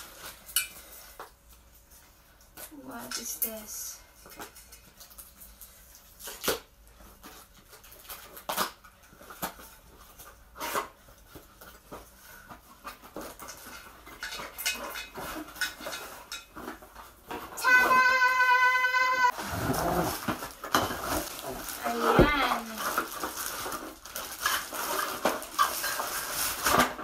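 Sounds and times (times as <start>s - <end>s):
knocks and rustles of handling: 4.0s - 18.5s, 19.2s - 27.0s.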